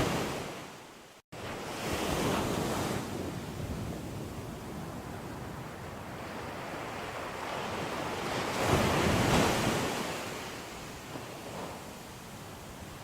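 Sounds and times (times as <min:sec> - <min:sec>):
ocean waves crashing: 0:00.0 - 0:13.0
wind on microphone: 0:01.4 - 0:13.0.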